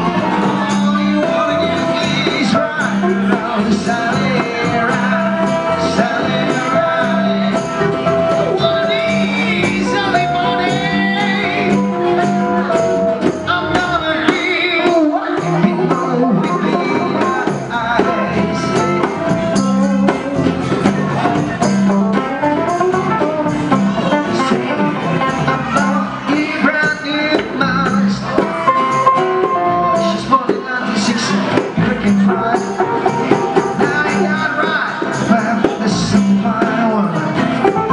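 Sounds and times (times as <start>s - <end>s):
harmonica bending notes: 0.0s - 30.4s
bass guitar: 0.0s - 37.9s
electric guitar: 0.0s - 37.9s
hand drums: 0.0s - 37.9s
strummed acoustic guitar: 0.0s - 37.9s.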